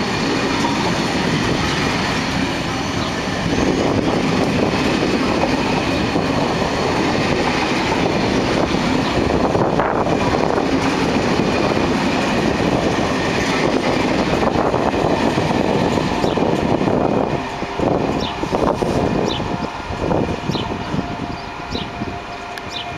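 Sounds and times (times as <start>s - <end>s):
train wheels on rails: 0.0s - 22.9s.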